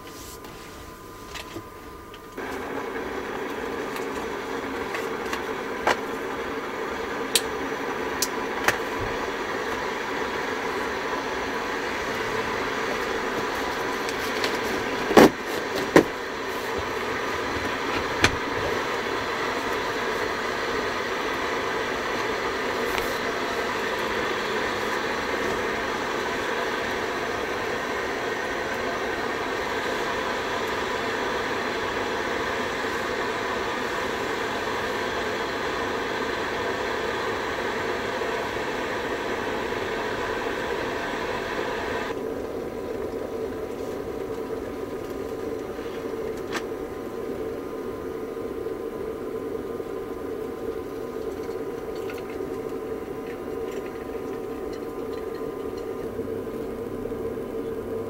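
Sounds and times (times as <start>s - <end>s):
electric kettle boiling water: 0.0s - 58.0s.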